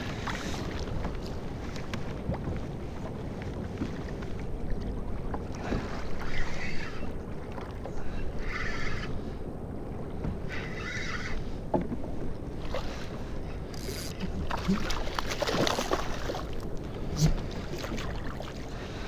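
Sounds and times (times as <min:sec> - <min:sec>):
water lapping against kayak hull: 0:00.0 - 0:19.0
wind rumbling on microphone: 0:00.0 - 0:19.0.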